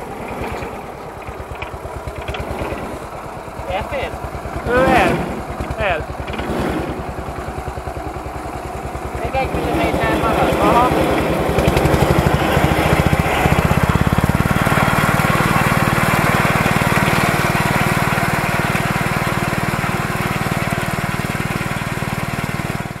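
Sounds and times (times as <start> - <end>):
diesel tractor engine chugging: 0.0 - 23.0.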